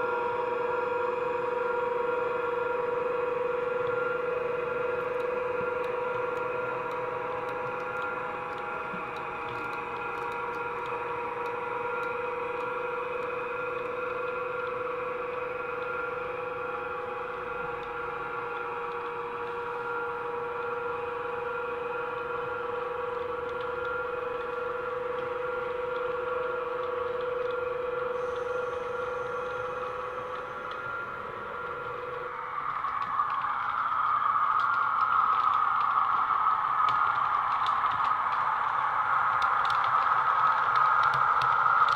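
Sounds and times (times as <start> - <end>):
steady hum of held tones: 0.0 - 41.9.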